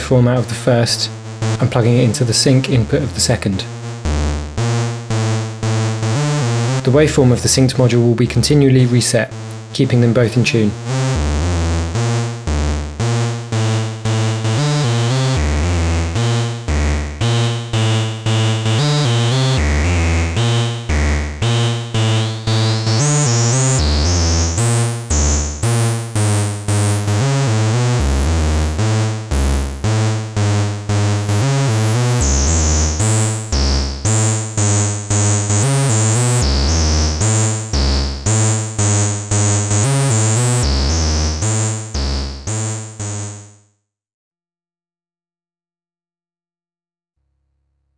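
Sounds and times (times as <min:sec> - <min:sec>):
synthesizer bass sequence: 0:00.0 - 0:43.6.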